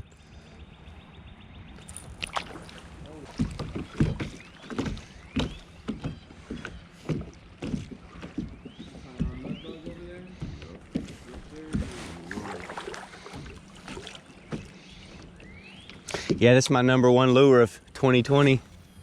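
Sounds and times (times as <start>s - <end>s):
kayak paddle splashing: 1.9s - 17.3s.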